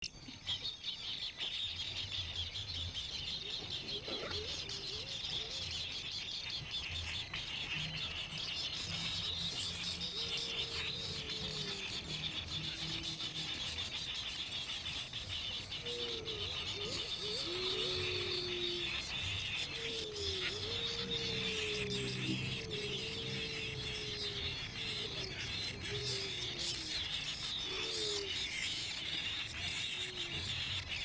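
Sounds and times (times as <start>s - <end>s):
baby birds chirping: 0.0s - 31.0s.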